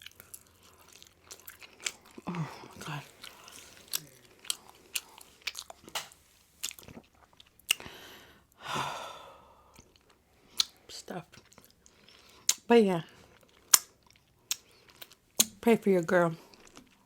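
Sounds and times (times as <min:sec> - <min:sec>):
chewing with wet mouth clicks: 0:00.0 - 0:07.9, 0:09.7 - 0:12.7, 0:13.3 - 0:15.6, 0:16.5 - 0:17.0.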